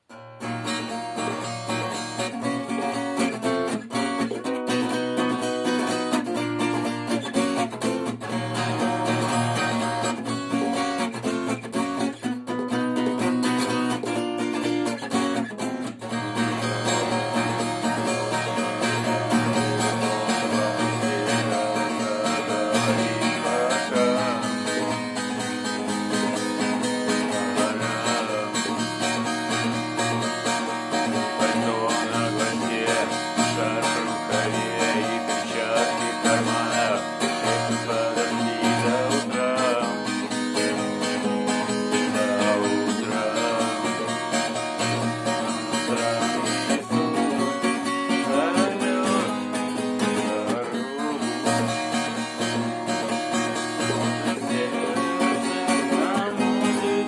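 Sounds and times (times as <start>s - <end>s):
strummed and plucked guitar music: 0.0s - 57.0s.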